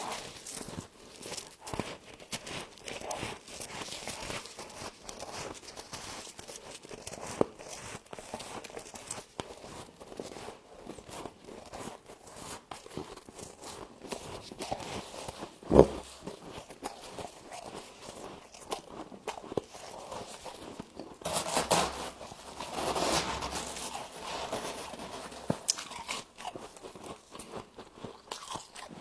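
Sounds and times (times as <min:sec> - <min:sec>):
crunching and chewing frost: 0:00.0 - 0:29.0.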